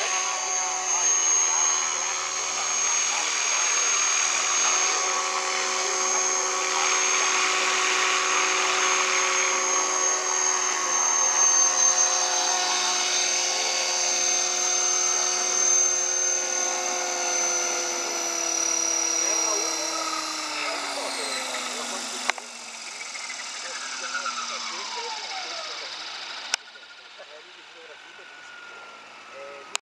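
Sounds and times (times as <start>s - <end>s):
rc helicopter rotor whine: 0.0s - 29.8s.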